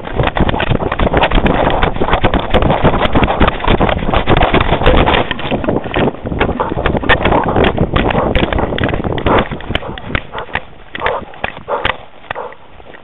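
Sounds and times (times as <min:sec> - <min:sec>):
camera knocking and rubbing: 0:00.0 - 0:13.0
wind buffeting microphone: 0:00.0 - 0:13.0.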